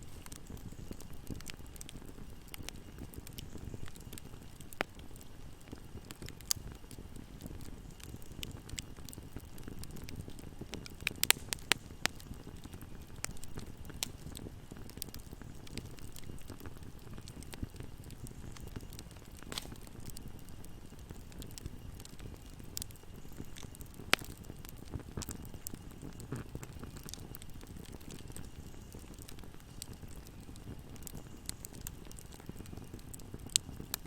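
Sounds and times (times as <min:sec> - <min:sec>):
fire crackling in fireplace: 0:00.0 - 0:34.0.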